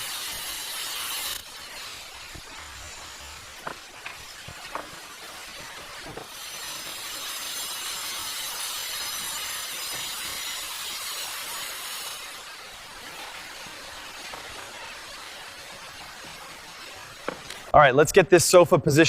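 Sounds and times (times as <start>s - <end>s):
power tool grinding: 0.0s - 17.7s.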